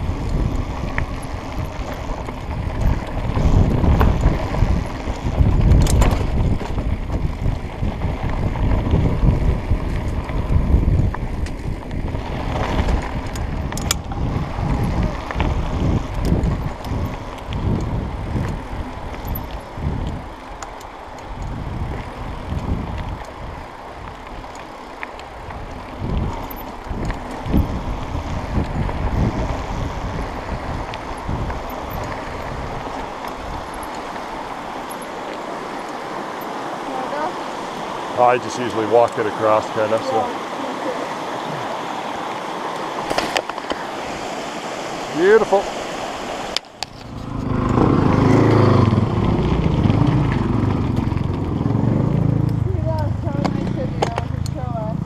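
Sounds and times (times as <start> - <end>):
bike tyres and frame rumbling: 0.0 - 55.0
wind buffeting microphone: 0.0 - 55.0.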